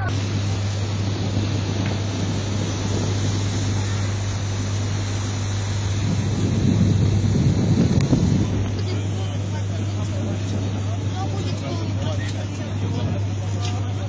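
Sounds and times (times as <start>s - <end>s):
boat engine humming: 0.0s - 14.0s
water wash: 0.0s - 14.0s
wind noise: 0.0s - 14.0s.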